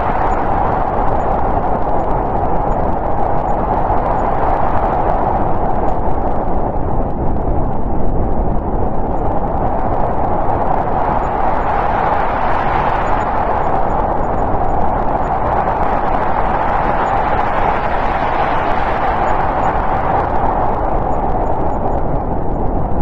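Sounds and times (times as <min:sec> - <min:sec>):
rushing wind with low rumble: 0:00.0 - 0:23.0.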